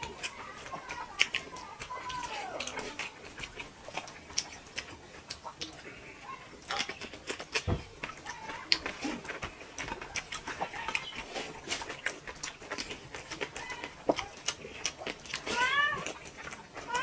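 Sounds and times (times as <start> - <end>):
wet chewing and squeezing sounds: 0.0 - 17.0.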